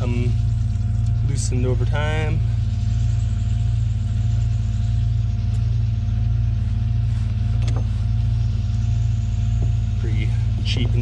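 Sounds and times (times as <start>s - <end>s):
engine droning: 0.0s - 11.0s
faint steady whine: 0.0s - 11.0s.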